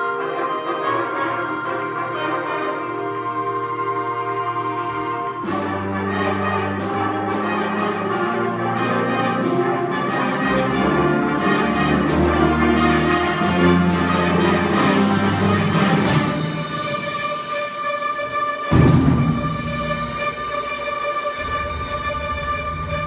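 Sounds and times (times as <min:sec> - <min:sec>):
wind and brass chords: 0:00.0 - 0:23.0
struck percussion notes: 0:01.0 - 0:23.0.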